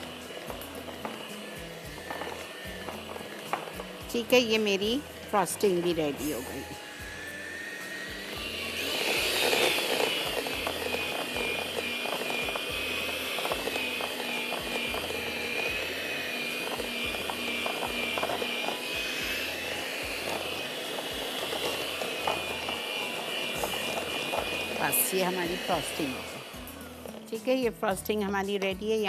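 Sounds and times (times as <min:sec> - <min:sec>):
electric hand mixer whine: 0:00.0 - 0:29.0.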